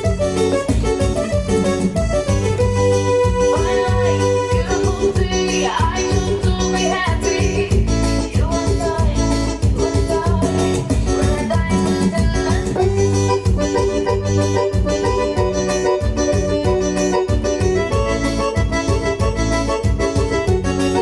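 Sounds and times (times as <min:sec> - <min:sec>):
accordion folk dance music: 0:00.0 - 0:21.0.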